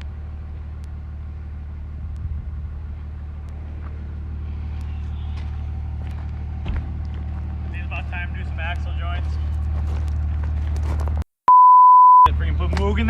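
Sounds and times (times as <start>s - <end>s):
pickup truck engine running: 0.0s - 11.2s, 12.3s - 13.0s.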